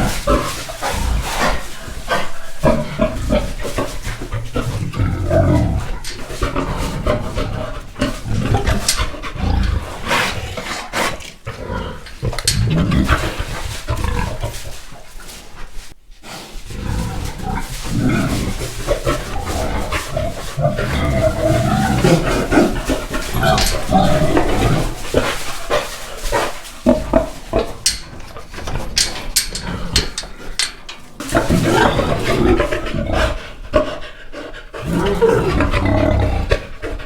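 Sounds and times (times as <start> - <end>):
pigs grunting: 0.0 - 37.0.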